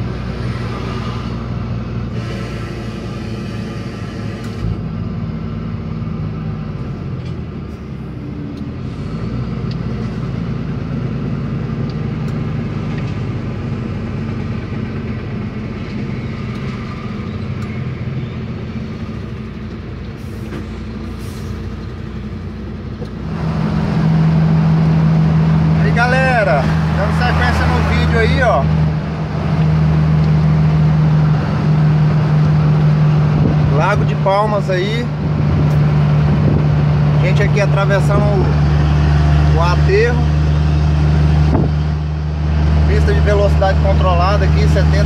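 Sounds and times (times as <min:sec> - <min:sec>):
road noise: 0:00.0 - 0:45.0
truck diesel engine running: 0:00.0 - 0:45.0.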